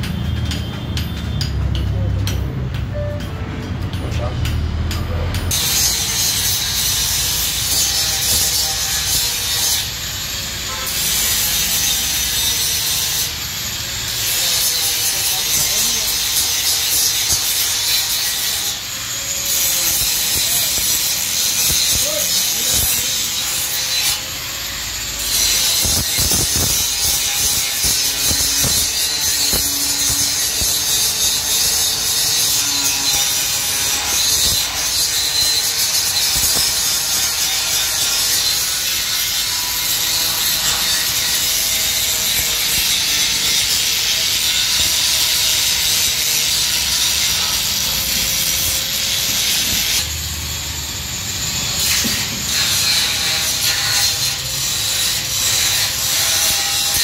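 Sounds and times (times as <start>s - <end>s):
angle grinder grinding steel: 0.0s - 57.0s.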